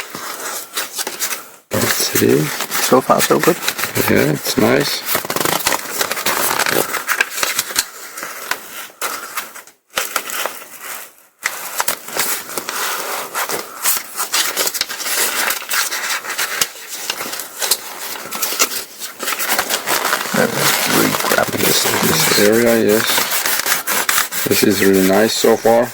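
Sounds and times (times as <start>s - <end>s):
nylon fabric crinkling: 1.8s - 9.3s, 9.9s - 25.9s.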